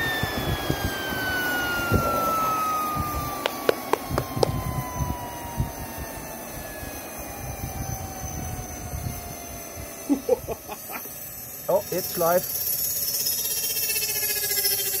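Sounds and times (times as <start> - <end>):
jet engine spinning down: 0.0 - 15.0.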